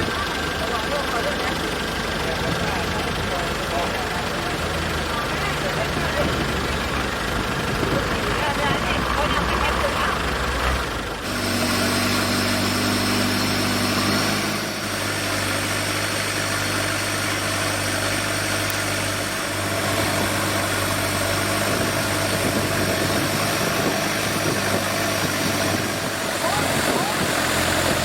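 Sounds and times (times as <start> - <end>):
engine running with low hum: 0.0 - 28.0.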